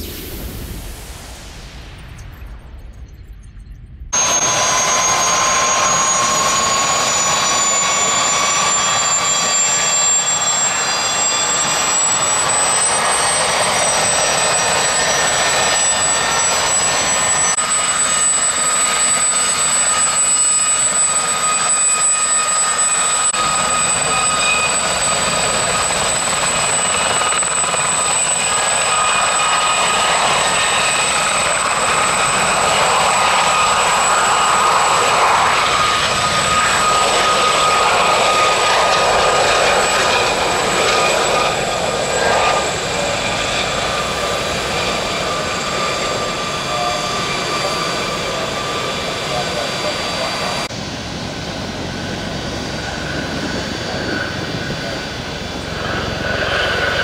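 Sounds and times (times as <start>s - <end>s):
helicopter turbines and rotors: 0.0s - 57.0s.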